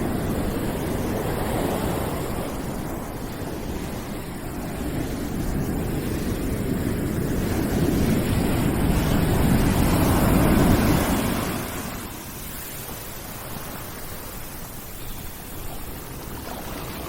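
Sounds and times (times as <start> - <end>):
white noise rushing like surf: 0.0 - 17.0.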